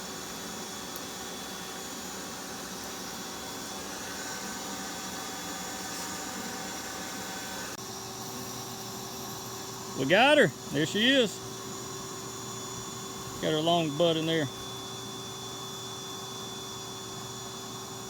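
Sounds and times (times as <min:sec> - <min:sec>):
vacuum rushing hum: 0:00.0 - 0:16.0.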